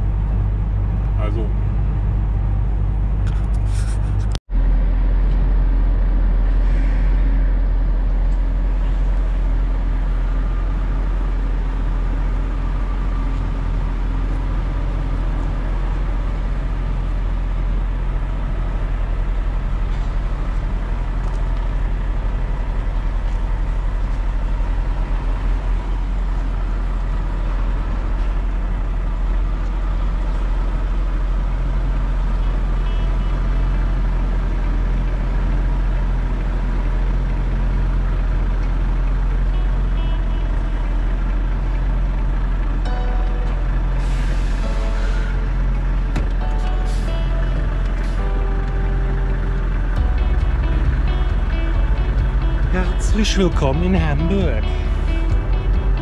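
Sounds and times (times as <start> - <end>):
lorry engine droning: 0.0 - 56.0
road noise: 0.0 - 56.0.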